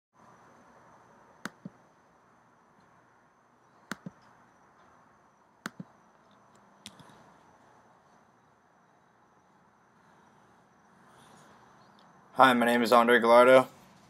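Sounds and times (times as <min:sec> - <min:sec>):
thin high whine: 0:00.2 - 0:14.0.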